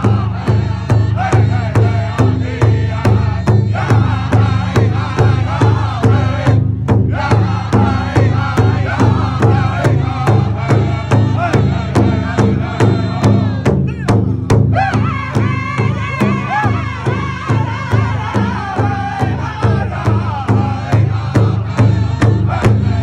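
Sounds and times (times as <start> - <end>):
large drum steady beat: 0.0 - 23.0
men singing in high voices: 0.0 - 23.0.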